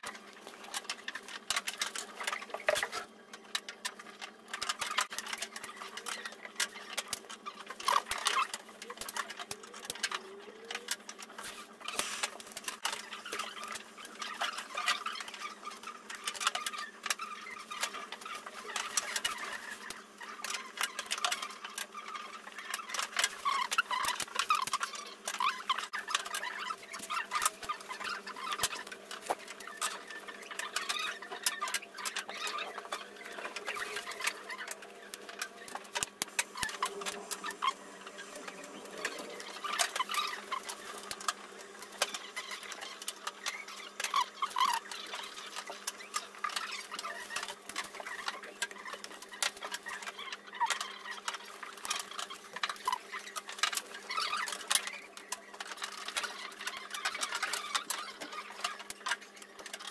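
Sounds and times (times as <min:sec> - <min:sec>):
small wire parts clicking: 0:00.0 - 0:59.9.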